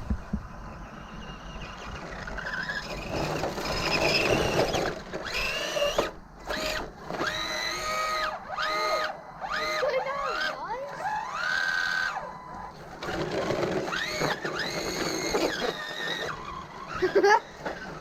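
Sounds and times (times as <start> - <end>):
electric motor whining: 0.8 - 18.0.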